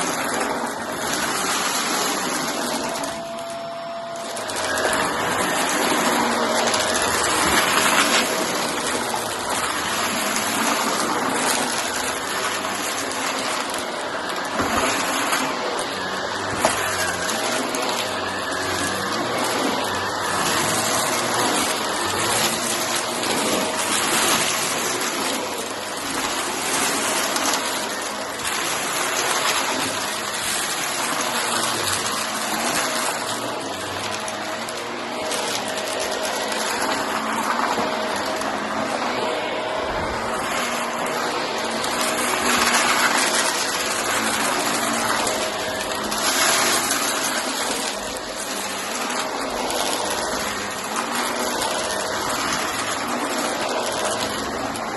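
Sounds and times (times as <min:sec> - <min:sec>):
cardboard bits crackling in vacuum: 0:00.0 - 0:54.9
vacuum cleaner running: 0:00.0 - 0:54.9.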